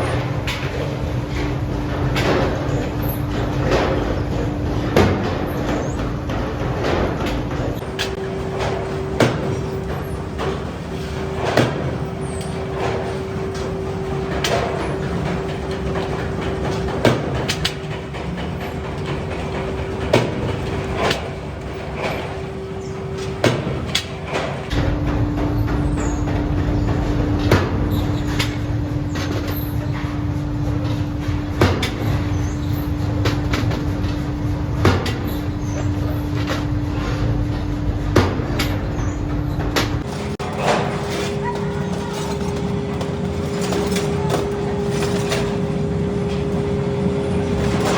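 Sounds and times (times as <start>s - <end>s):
machinery humming: 0.0s - 47.9s.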